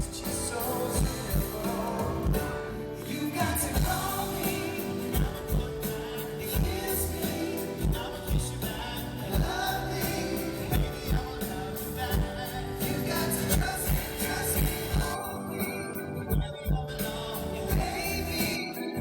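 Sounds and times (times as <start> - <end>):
drums: 0.0 - 19.0
live pop band music: 0.0 - 19.0
person singing: 0.0 - 19.0.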